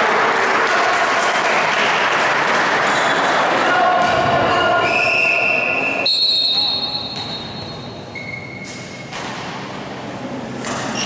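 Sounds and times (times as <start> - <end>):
echoing gym background: 0.0 - 11.0.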